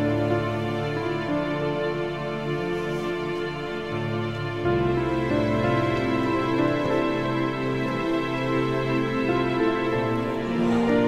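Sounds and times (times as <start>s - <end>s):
background music of held notes: 0.0s - 11.0s.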